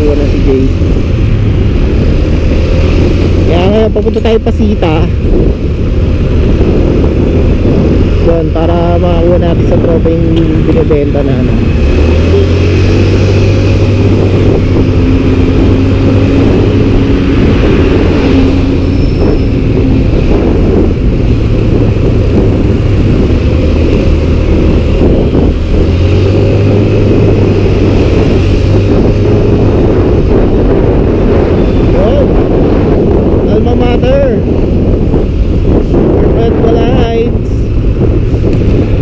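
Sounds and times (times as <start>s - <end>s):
motorcycle engine running: 0.0s - 39.0s
wind noise on microphone: 0.0s - 39.0s.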